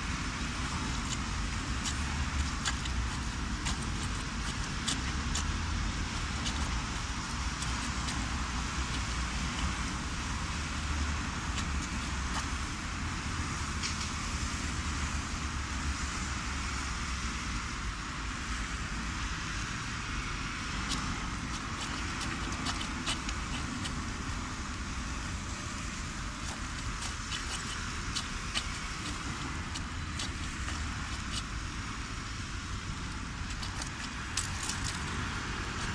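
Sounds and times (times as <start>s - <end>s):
cars passing on a wet road: 0.0s - 35.9s.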